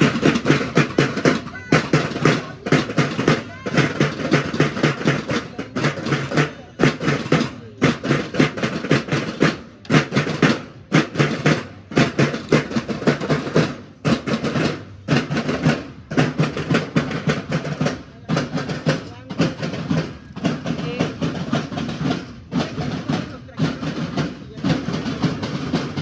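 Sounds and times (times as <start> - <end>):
snare drums: 0.0 - 26.0.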